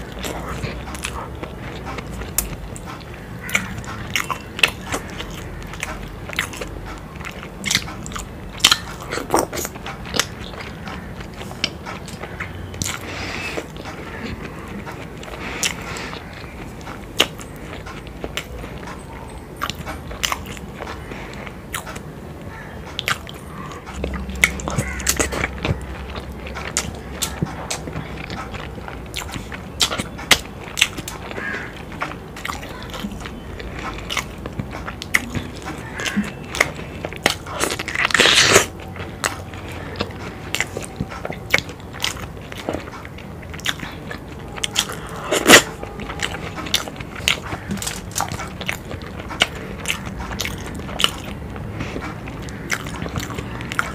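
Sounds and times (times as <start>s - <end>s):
chewing and biting food: 0.0s - 53.9s
chewing and wet mouth clicks: 0.0s - 53.9s.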